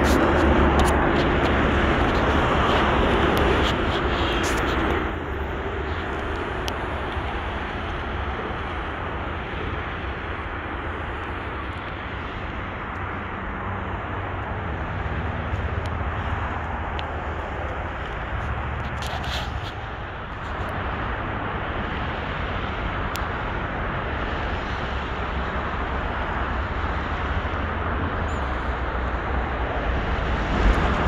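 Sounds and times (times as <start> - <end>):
freeway traffic rumble: 0.0 - 31.0.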